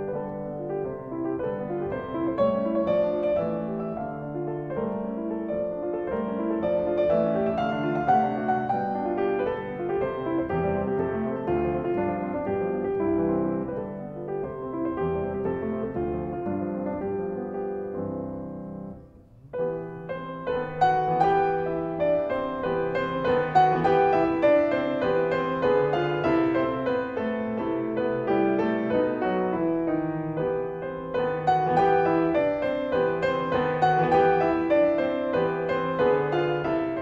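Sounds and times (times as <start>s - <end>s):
gentle piano music: 0.0s - 37.0s.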